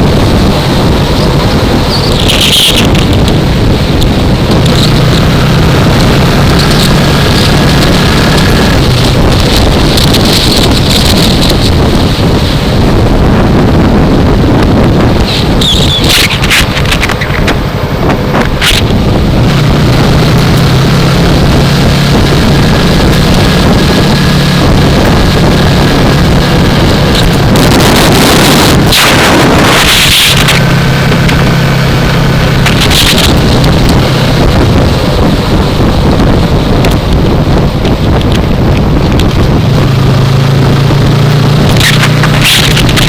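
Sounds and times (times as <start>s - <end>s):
motorcycle engine droning: 0.0s - 43.0s
wind rush on microphone: 0.0s - 43.0s.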